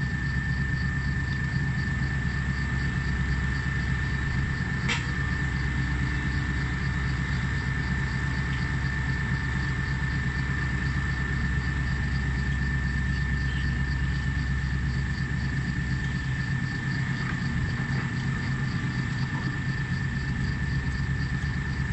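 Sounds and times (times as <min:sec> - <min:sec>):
diesel engines running: 0:00.0 - 0:21.9
steady high whine: 0:00.0 - 0:21.9.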